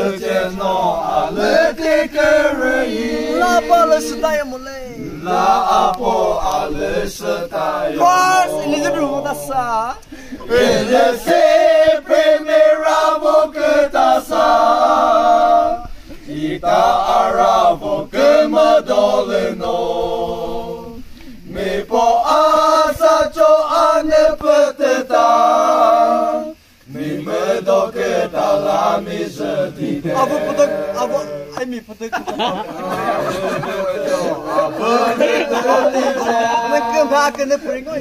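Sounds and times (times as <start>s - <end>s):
men singing without instruments: 0.0s - 38.0s.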